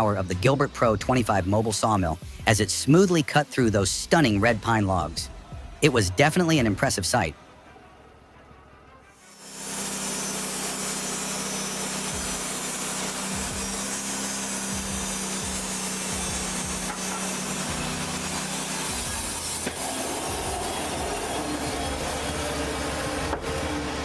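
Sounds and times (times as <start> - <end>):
power saw cutting wood: 0.0 - 7.2, 9.1 - 24.0.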